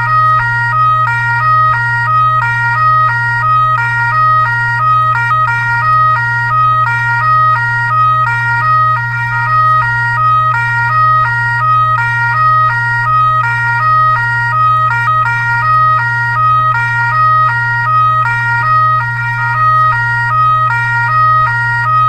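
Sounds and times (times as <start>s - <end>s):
electronic siren stepping tones: 0.0s - 22.0s
steady low hum: 0.0s - 22.0s.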